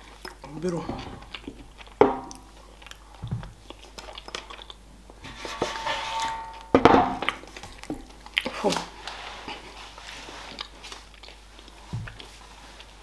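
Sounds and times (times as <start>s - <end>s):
person chewing food: 0.0s - 5.2s, 7.2s - 13.0s.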